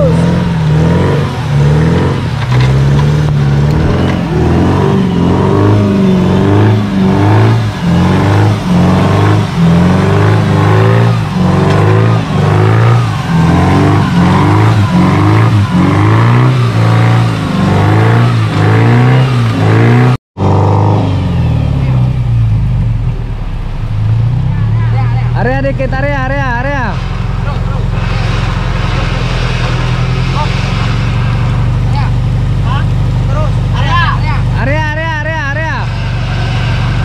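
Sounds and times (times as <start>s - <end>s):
jeep engine revving hard: 0.0s - 22.4s, 25.8s - 37.0s.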